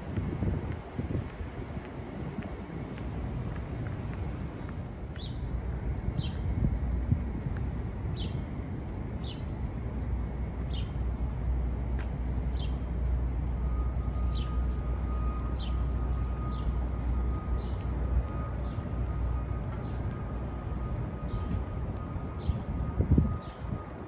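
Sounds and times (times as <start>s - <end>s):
low city rumble: 0.0s - 24.0s.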